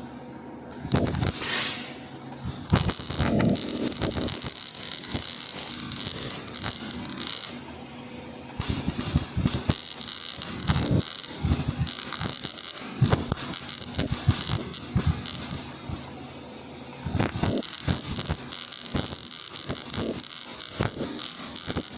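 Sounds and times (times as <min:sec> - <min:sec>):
welding arc crackling: 0:00.7 - 0:21.9.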